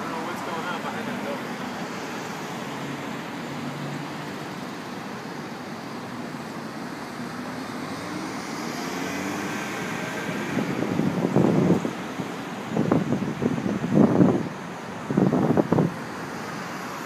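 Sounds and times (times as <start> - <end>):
city traffic hum: 0.0 - 17.0.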